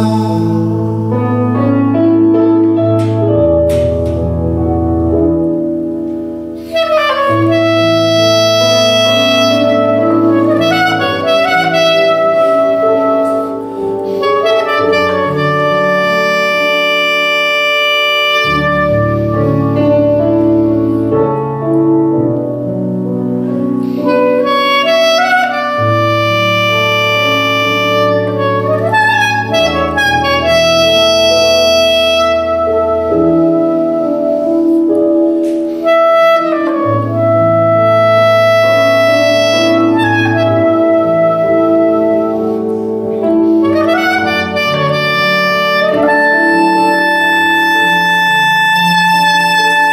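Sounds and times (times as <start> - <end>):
clarinet melody: 0.0 - 49.9
low chordal accompaniment: 0.0 - 49.9.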